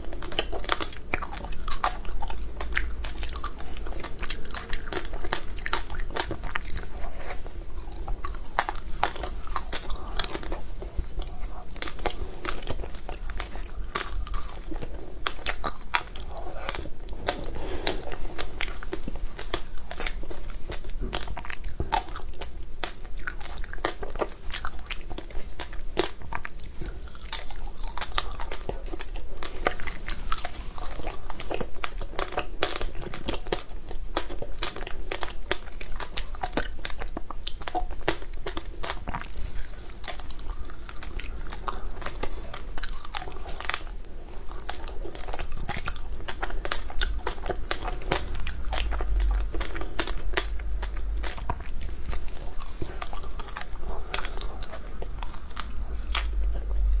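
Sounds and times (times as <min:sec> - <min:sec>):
crunching ice bars being chewed: 0:00.0 - 0:57.0.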